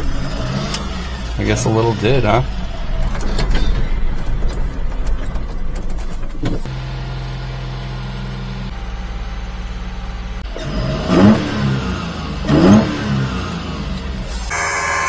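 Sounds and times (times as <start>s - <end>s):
truck engine idling and revving: 0.0s - 15.0s.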